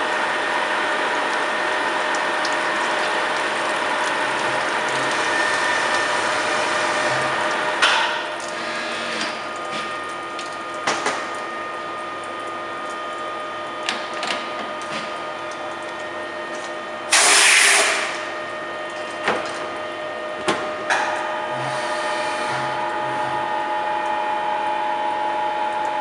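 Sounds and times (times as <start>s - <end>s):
milling machine whining: 0.0s - 10.3s, 14.7s - 26.0s.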